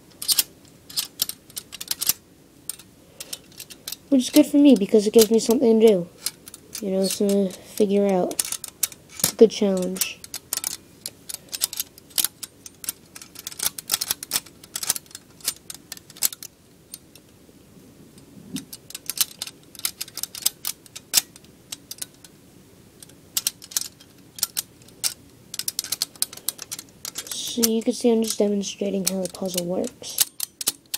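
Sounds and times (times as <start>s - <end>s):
metal puzzle clicking and rattling: 0.0s - 17.3s, 18.6s - 22.3s, 23.0s - 30.9s.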